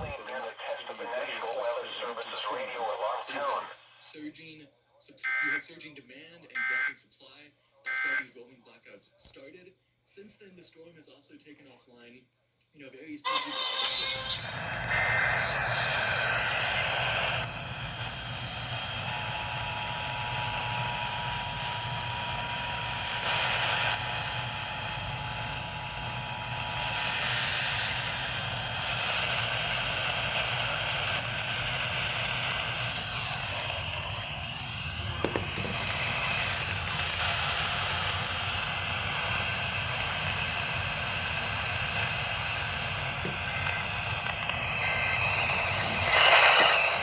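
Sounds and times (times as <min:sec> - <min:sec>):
radio static hiss: 0:00.0 - 0:04.7, 0:13.3 - 0:47.0.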